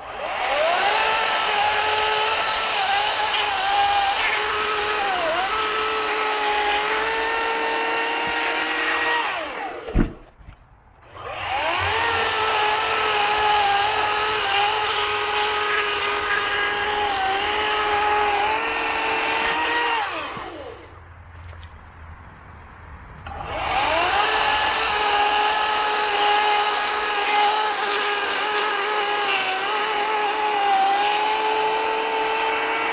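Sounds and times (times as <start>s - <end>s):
electric chainsaw cutting log: 0.0s - 10.4s, 11.0s - 21.0s, 23.3s - 32.9s.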